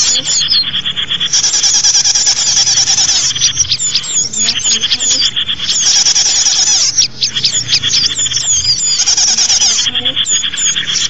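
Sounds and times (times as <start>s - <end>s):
songbirds chittering trills: 0.0s - 11.0s.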